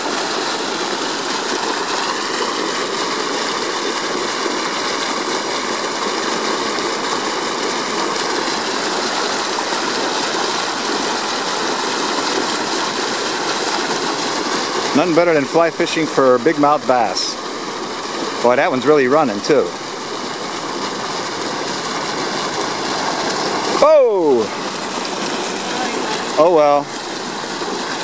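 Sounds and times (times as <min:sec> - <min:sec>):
water rushing and churning: 0:00.0 - 0:28.0.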